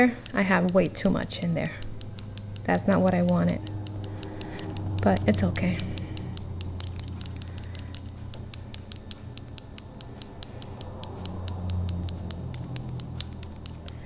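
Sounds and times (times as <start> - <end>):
fast even ticking: 0.0 - 14.0
low hum: 0.0 - 14.0.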